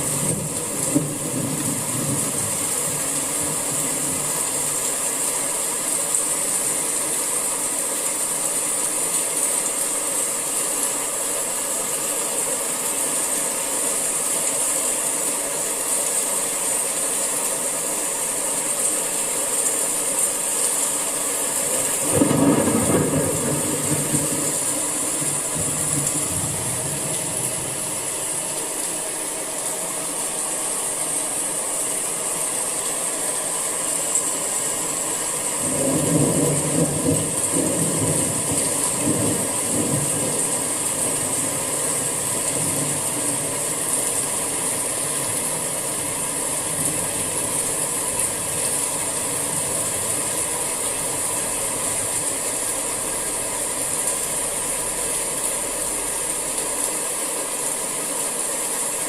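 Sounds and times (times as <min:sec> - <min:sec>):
rain hissing: 0:00.0 - 0:59.0.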